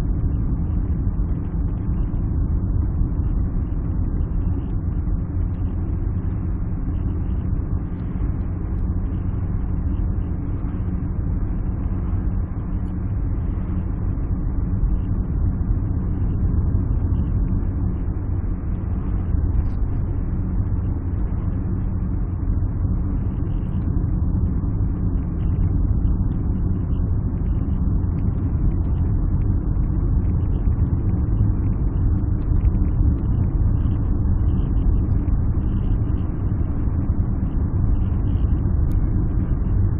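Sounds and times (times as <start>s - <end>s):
car engine and road noise drone: 0.0s - 39.9s.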